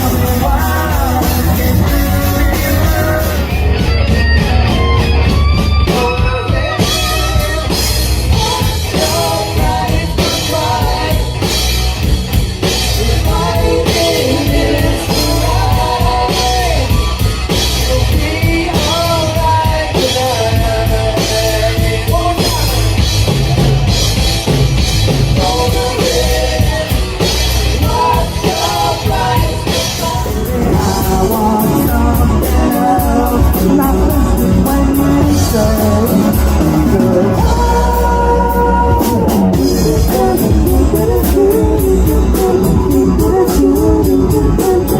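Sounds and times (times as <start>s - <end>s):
person singing: 0.0s - 23.7s, 25.4s - 44.9s
rock band playing: 0.0s - 44.9s.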